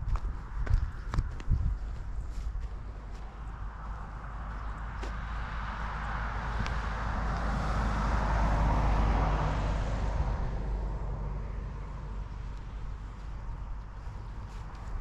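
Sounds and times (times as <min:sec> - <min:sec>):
vehicle passing by: 0:00.3 - 0:15.0.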